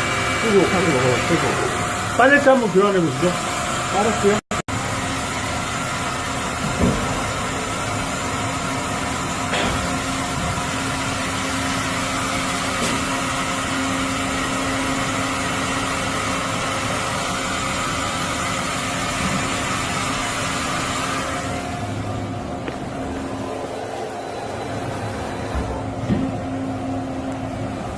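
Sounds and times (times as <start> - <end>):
machine hum with fixed tones: 0.0 - 27.9.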